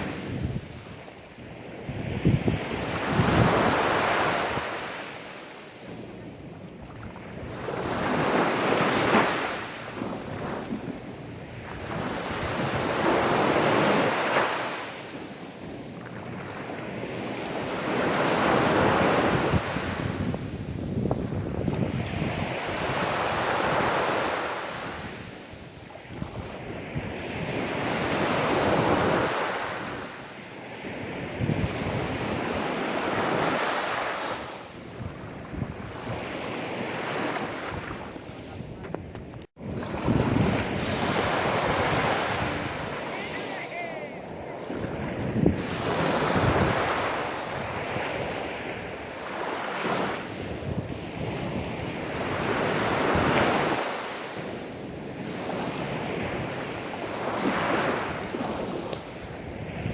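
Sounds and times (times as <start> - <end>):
wind on microphone: 0.0 - 5.2, 5.8 - 43.5, 44.1 - 59.9
sea waves washing onto beach: 0.0 - 59.9.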